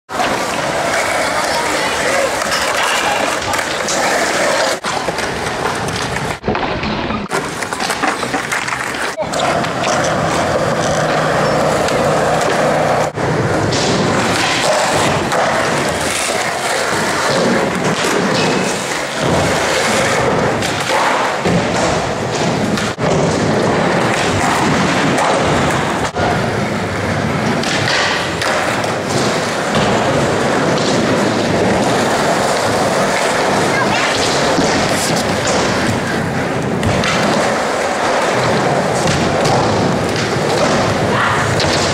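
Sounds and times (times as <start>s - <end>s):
skateboard wheels rolling on concrete: 0.1s - 41.9s.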